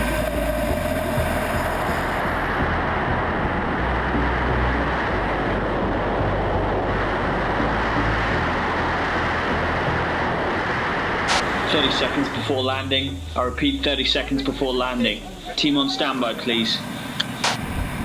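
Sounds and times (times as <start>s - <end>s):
low wind buffeting: 0.0s - 18.0s
wind rushing over microphone: 0.0s - 18.0s.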